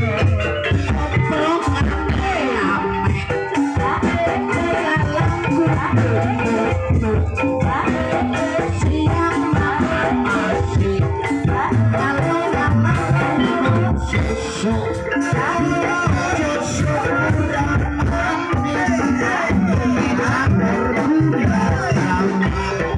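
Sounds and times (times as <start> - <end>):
drum beats: 0.0 - 22.9
gamelan metallic notes: 0.0 - 22.9.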